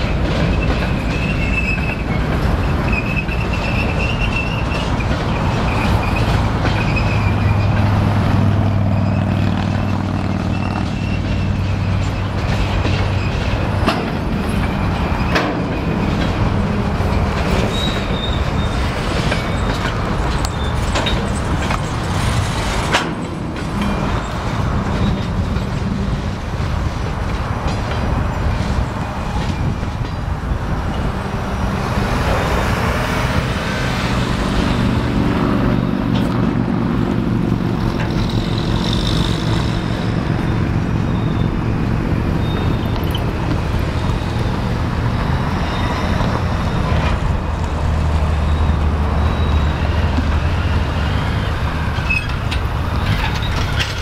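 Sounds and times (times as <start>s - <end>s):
train wheels clacking over rail gaps: 0.0s - 54.0s.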